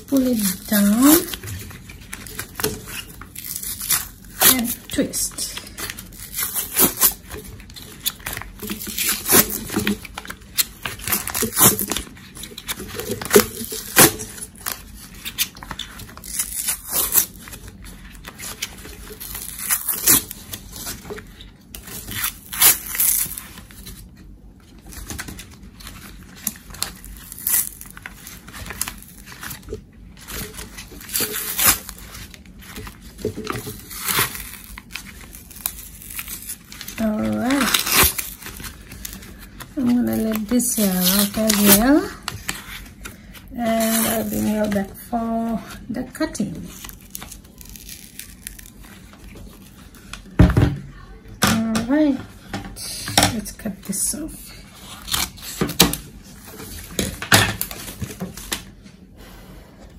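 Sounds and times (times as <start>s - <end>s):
cardboard tube tearing and crinkling: 0.0s - 50.7s, 54.6s - 58.8s.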